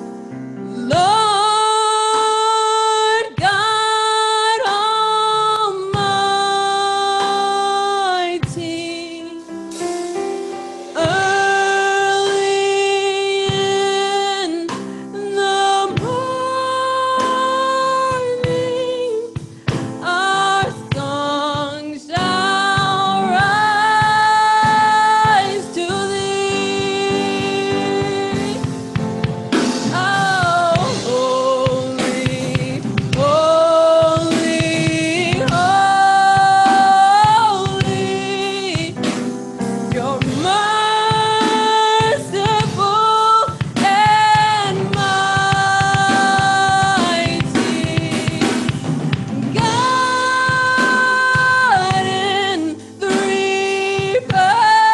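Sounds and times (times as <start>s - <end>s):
keyboard chords: 0.0s - 4.3s, 5.8s - 54.9s
person singing gospel: 0.8s - 9.8s, 10.8s - 54.9s.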